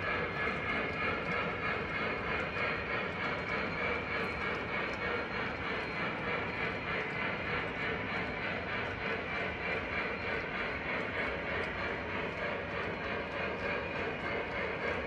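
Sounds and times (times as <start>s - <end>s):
faint clicks: 0.0s - 15.0s
model train wheels rumbling: 0.0s - 15.0s.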